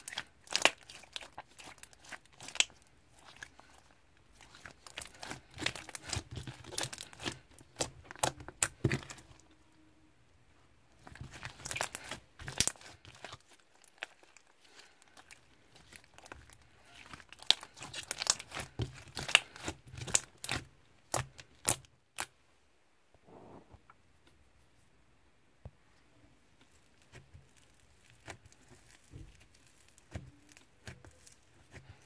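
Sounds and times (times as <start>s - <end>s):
slime crackling and popping: 0.0s - 9.4s, 11.0s - 22.3s, 26.7s - 32.0s.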